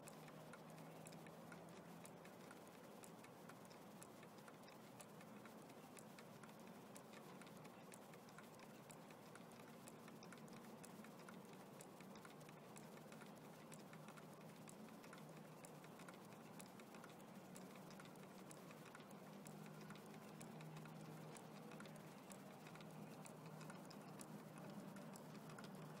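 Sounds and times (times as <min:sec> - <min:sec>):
light mechanical ticks: 0:00.0 - 0:26.0.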